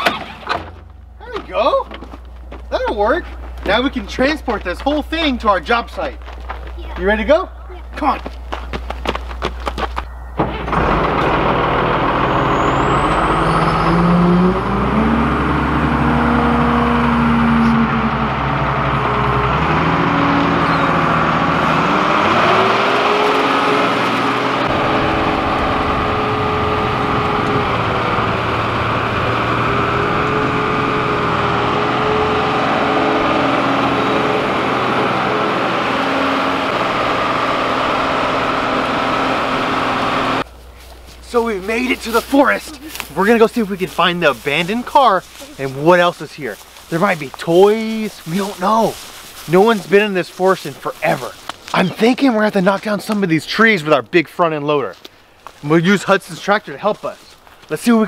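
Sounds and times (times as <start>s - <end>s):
wheel loader diesel engine: 0.0s - 54.1s.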